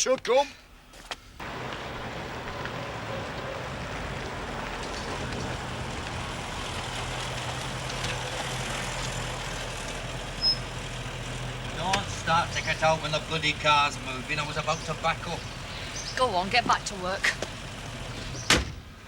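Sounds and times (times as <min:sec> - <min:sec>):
car engine with road noise: 0:00.7 - 0:19.0.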